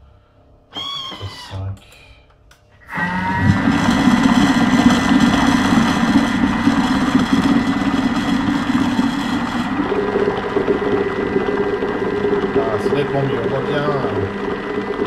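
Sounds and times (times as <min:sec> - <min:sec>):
food processor motor whirring: 0:00.8 - 0:01.3, 0:02.8 - 0:15.0.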